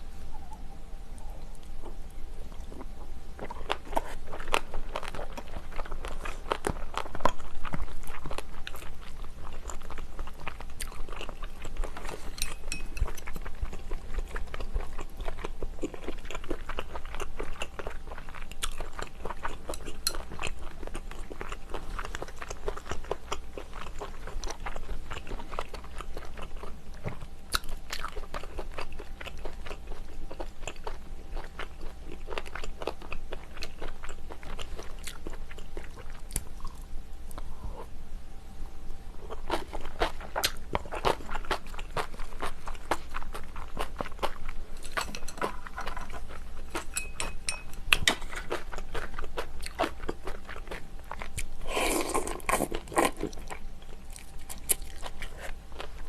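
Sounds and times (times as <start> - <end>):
person chewing food: 1.2 - 37.9, 39.2 - 56.0.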